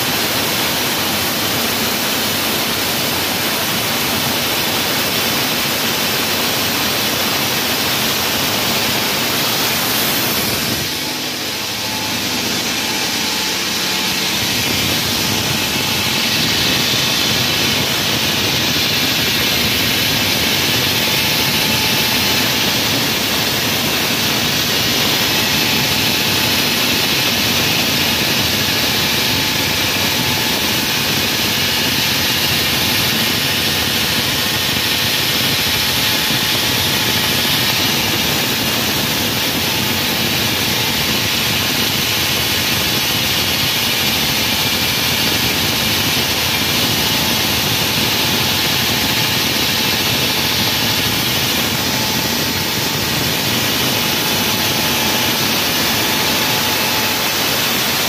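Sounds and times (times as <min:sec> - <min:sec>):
wall saw cutting: 0:05.8 - 0:58.0.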